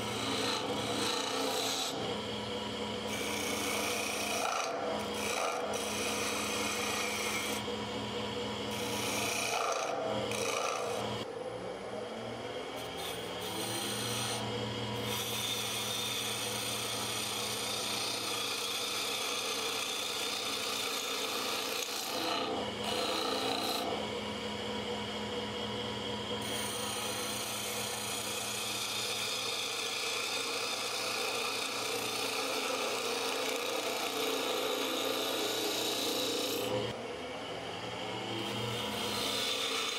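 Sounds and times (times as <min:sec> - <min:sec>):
turning tool scraping wood: 0:00.0 - 0:02.2, 0:03.1 - 0:07.7, 0:08.7 - 0:11.1, 0:12.8 - 0:23.9, 0:26.4 - 0:36.8, 0:38.4 - 0:39.9
wood lathe humming: 0:00.0 - 0:39.9.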